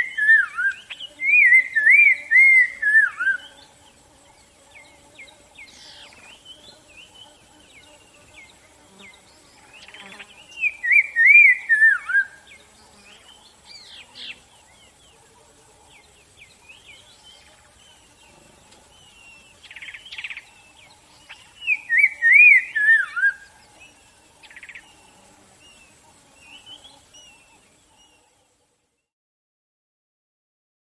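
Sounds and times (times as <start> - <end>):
descending warbled birdsong: 0.0 - 29.0.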